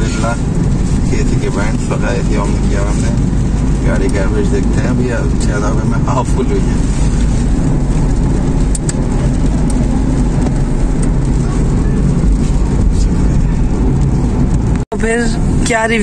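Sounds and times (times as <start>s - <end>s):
in-cabin road and engine noise: 0.0s - 16.0s.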